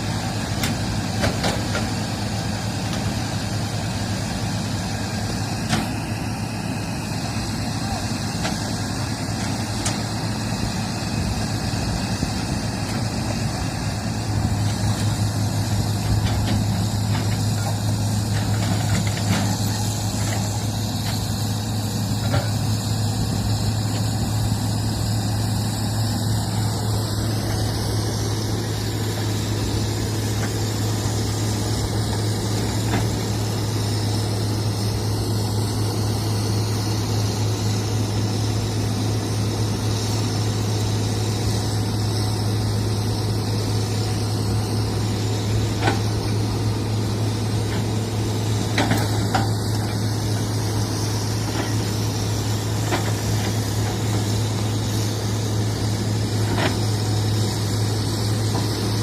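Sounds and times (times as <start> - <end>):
construction machine engine running: 0.0 - 59.0.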